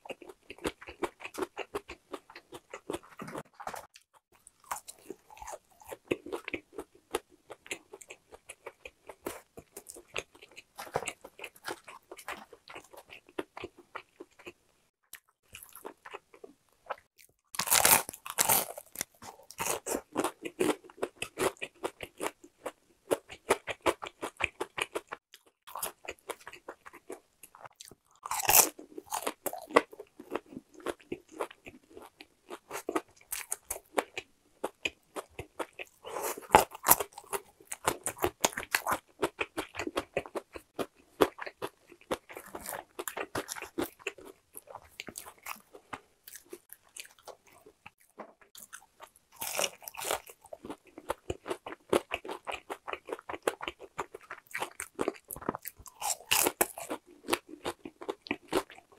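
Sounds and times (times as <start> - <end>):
crunchy bites and chewing: 0.0 - 58.9.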